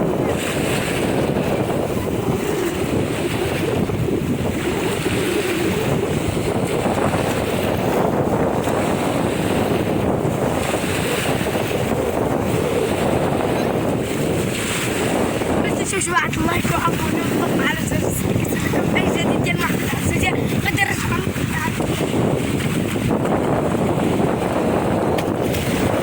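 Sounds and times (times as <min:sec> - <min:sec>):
sea waves washing onto beach: 0:00.0 - 0:26.0
wind buffeting microphone: 0:00.0 - 0:26.0.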